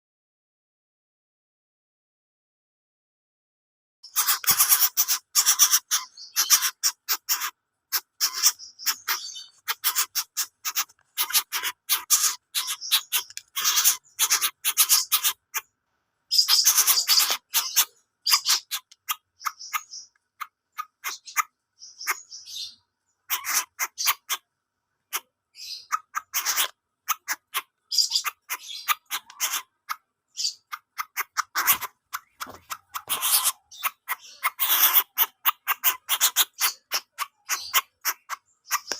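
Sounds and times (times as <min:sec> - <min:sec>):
bird harsh rasping calls: 0:04.0 - 0:38.9.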